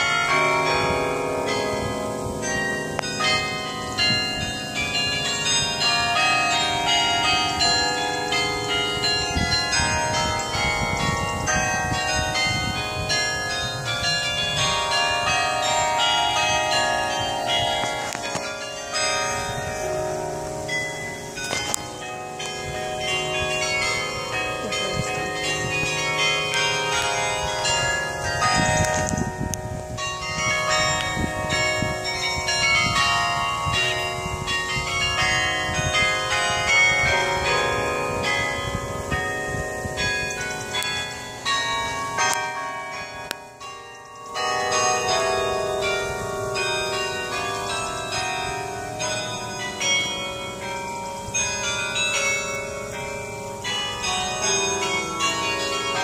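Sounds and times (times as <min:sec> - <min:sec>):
carillon bells playing a tune: 0:00.0 - 0:56.0.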